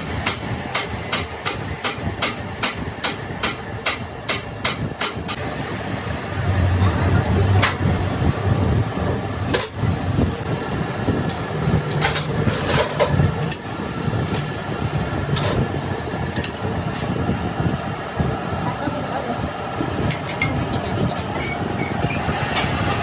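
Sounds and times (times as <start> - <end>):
low mechanical running noise: 0.0 - 23.0.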